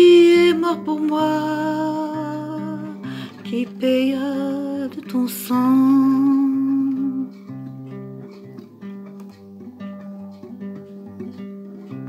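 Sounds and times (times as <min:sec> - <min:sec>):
plucked guitar notes: 0:00.0 - 0:12.0.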